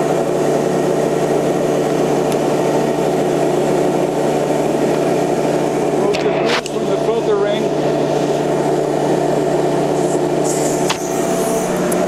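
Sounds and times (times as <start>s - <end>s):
industrial vacuum motor hum: 0.0s - 12.0s.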